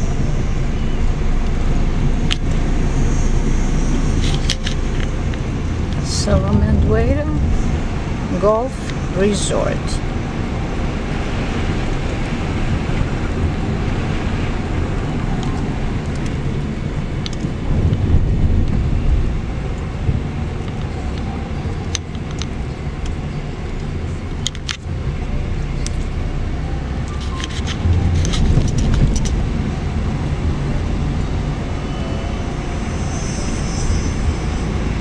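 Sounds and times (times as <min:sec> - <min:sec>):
car cabin road rumble: 0:00.0 - 0:35.0.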